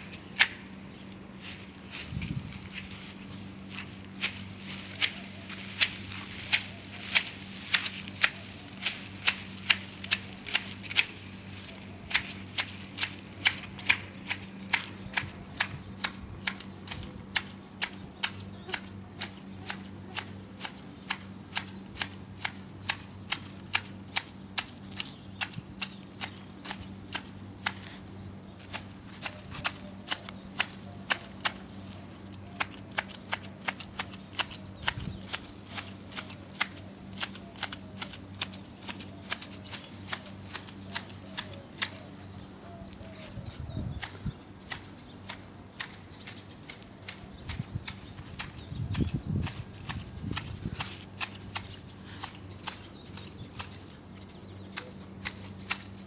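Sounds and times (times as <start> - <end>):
hand shears snipping: 0.0 - 0.8, 3.8 - 28.0, 28.6 - 42.3, 43.9 - 53.8, 54.7 - 56.0
low steady hum: 0.0 - 56.0.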